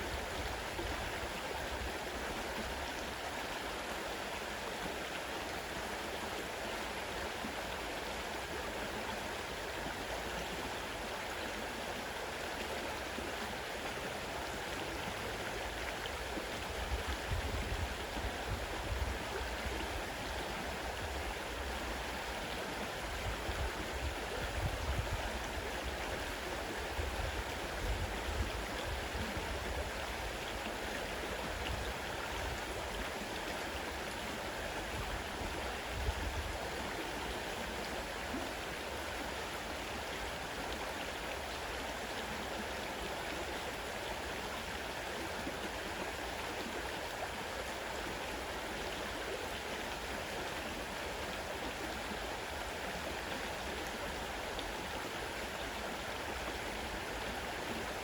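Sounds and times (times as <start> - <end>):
fast river water rushing: 0.0 - 58.0.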